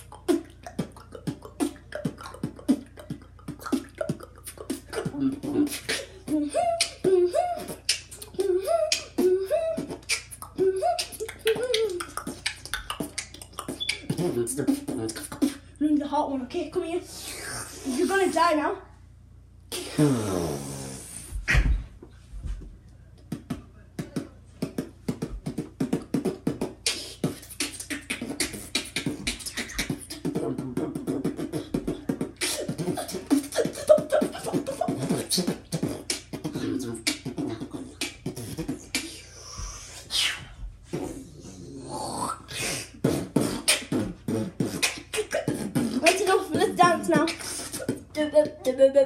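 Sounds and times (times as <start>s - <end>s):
boy beatboxing: 0.0s - 18.8s, 19.7s - 21.8s, 23.2s - 49.0s.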